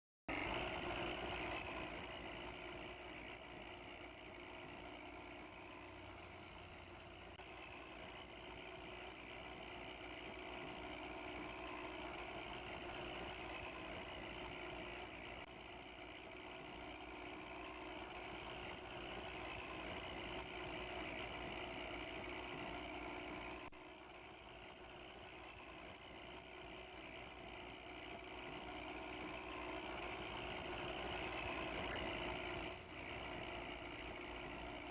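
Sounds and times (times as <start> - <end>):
bus diesel engine running: 0.3 - 34.9.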